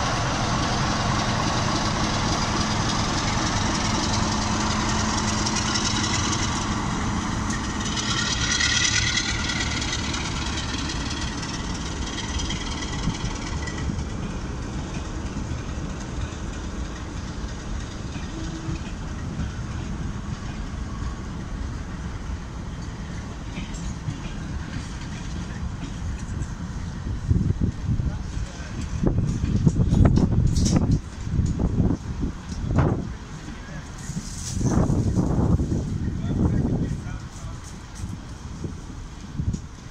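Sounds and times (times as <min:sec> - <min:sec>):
coaches rolling with wheel clatter: 0:00.0 - 0:39.9
diesel locomotive engine hum: 0:00.0 - 0:39.9.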